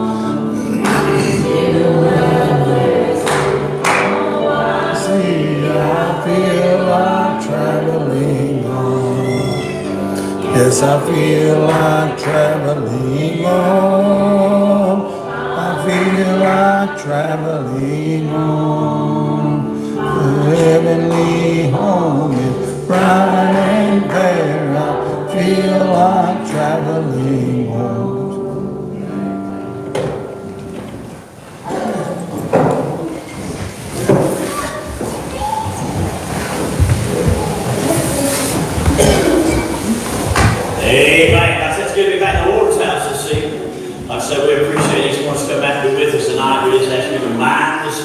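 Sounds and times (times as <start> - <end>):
congregation singing a hymn: 0.0 - 48.0
keyboard accompaniment: 0.0 - 48.0.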